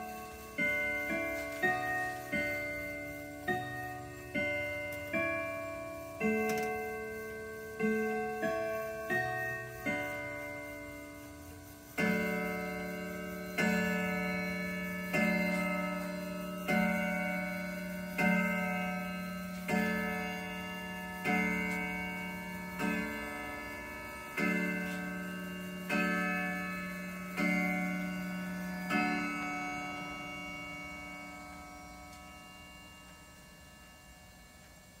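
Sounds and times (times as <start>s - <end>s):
clock chime rod striking: 0.0s - 35.0s.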